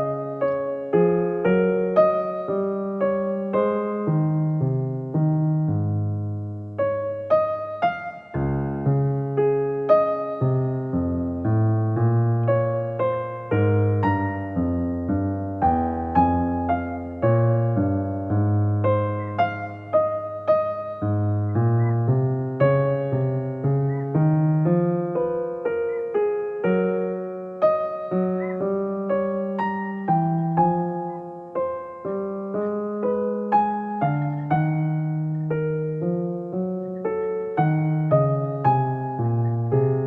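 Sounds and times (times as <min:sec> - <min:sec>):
slow electric piano melody: 0:00.0 - 0:40.0.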